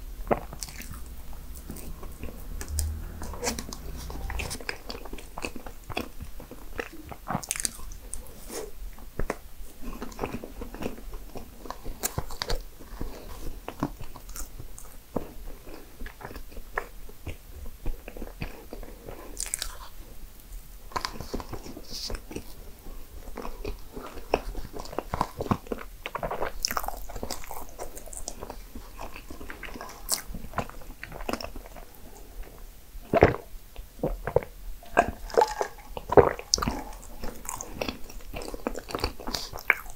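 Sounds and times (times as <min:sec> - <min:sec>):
person chewing crunchy food: 0:00.0 - 0:20.1, 0:20.9 - 0:39.9.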